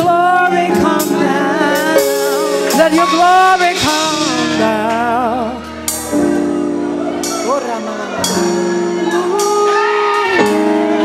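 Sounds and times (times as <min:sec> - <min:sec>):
gospel singing: 0:00.0 - 0:11.0.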